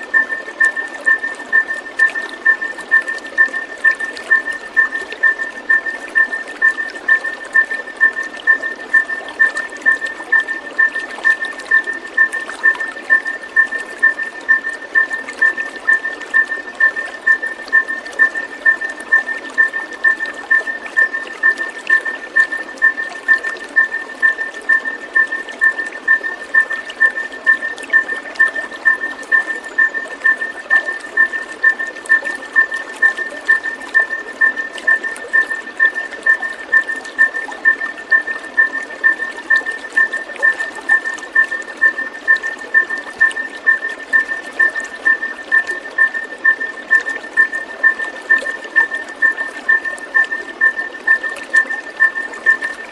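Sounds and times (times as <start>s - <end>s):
running water: 0.0s - 52.9s.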